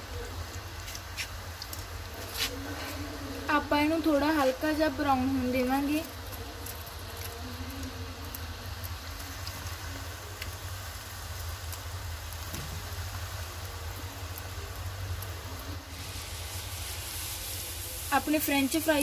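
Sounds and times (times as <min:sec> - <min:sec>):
oil bubbling and sizzling: 0:00.0 - 0:19.0.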